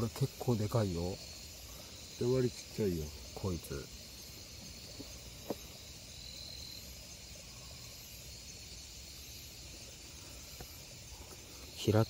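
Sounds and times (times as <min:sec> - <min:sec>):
night insects chorus: 0:00.0 - 0:12.0.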